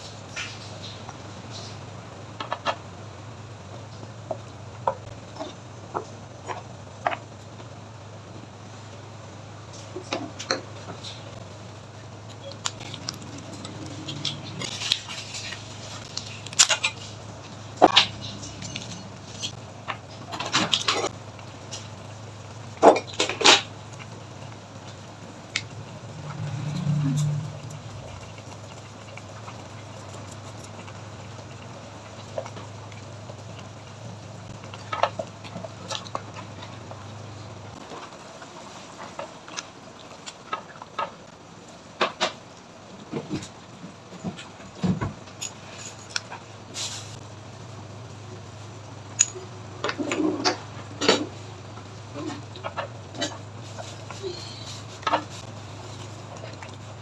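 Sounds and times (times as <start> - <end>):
soup boiling in a pot: 0.0 - 57.0
steady low hum: 0.0 - 57.0.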